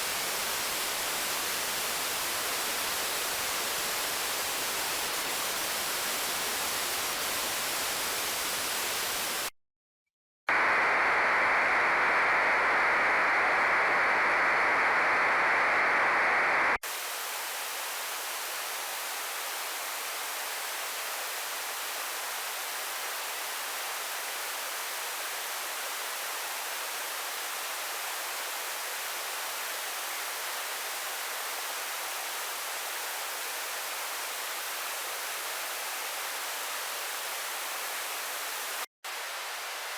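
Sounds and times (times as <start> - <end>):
tv static hiss: 0.0 - 9.5, 10.5 - 39.9.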